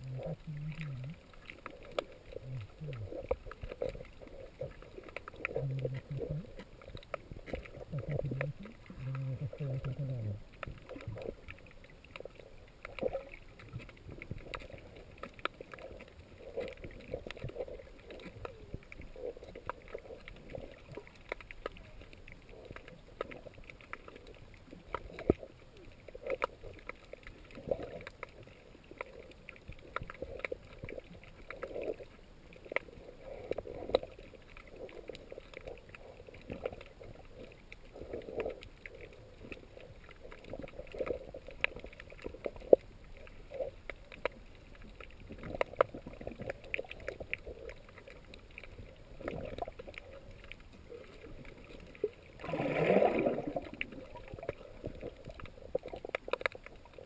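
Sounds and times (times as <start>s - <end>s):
faint scattered clicks: 0.0s - 57.0s
muffled underwater water movement: 0.0s - 57.0s.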